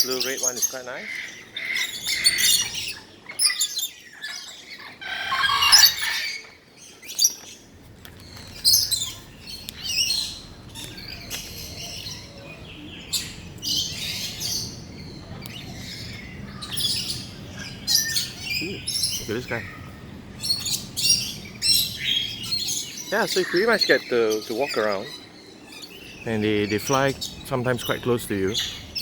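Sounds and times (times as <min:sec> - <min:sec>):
parrots chirping and squawking: 0:00.0 - 0:29.0.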